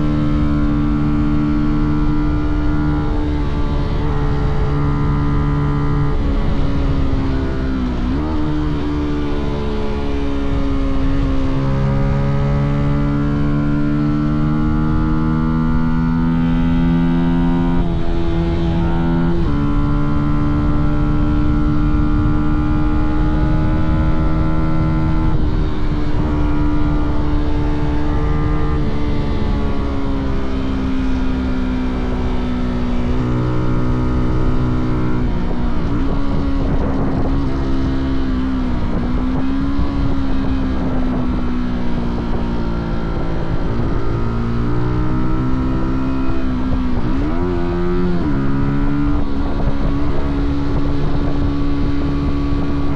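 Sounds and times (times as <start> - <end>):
motorcycle engine and exhaust running: 0.0 - 52.9.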